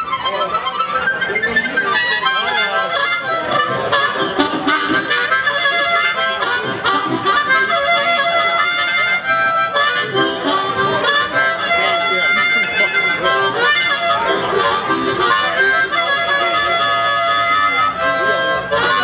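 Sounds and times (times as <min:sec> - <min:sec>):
amplified blues harmonica: 0:00.0 - 0:19.0
keyboards: 0:00.0 - 0:19.0.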